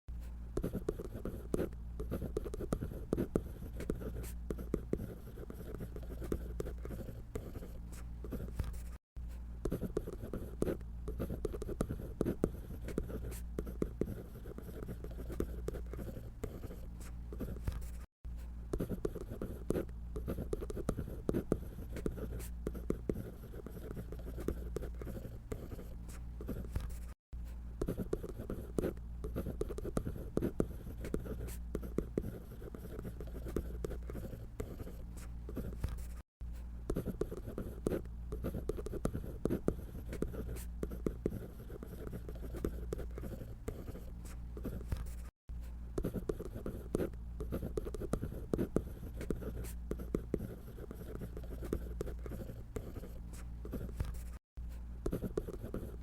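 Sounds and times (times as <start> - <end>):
drawing tool scratching on paper: 0.6 - 9.0, 9.6 - 18.1, 18.7 - 27.2, 27.8 - 36.2, 36.9 - 54.4, 55.0 - 56.0.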